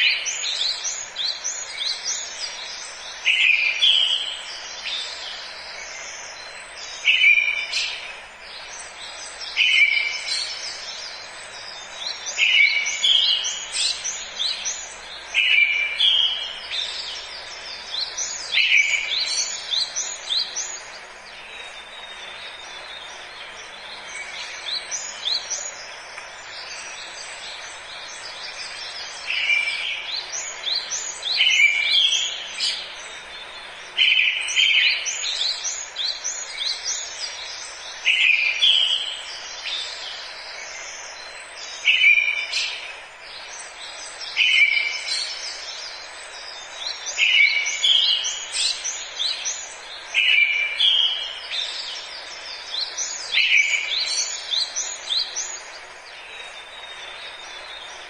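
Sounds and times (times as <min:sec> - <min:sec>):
bird song phrase: 0:00.0 - 0:58.0
steady background hiss: 0:00.0 - 0:58.0.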